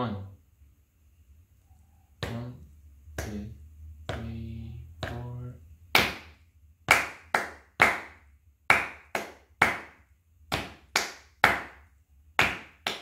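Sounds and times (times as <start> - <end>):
hand clapping rhythm: 2.2 - 13.0.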